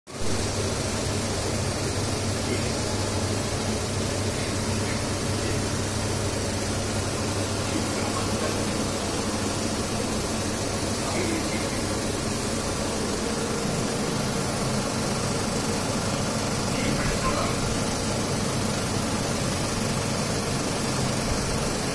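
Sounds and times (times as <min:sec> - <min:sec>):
mechanical hum with hiss: 0:00.1 - 0:21.9.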